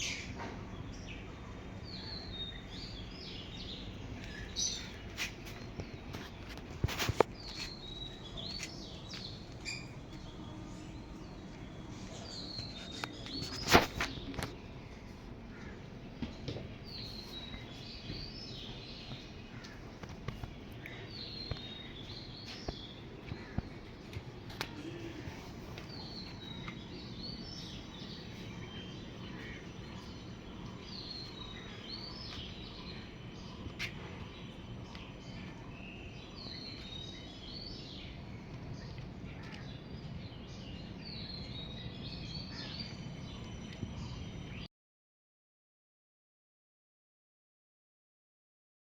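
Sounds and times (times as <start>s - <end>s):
low background hum: 0.0s - 44.7s
small birds chirping: 0.0s - 44.7s
steady background noise: 0.0s - 44.7s.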